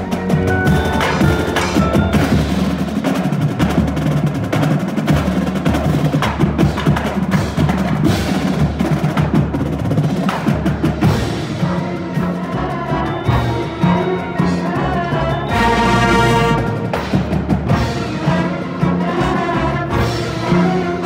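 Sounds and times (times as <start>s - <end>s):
marching drumline playing: 0.0s - 21.0s.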